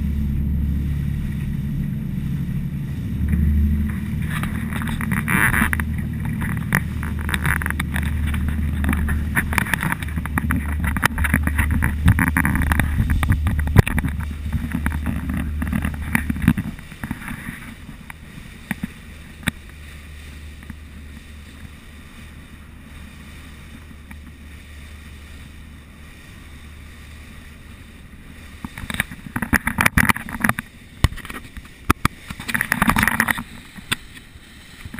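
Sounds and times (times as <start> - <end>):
boat engine drone: 0.0 - 34.9
rushing water: 0.0 - 34.9
wind on the microphone: 0.0 - 34.9.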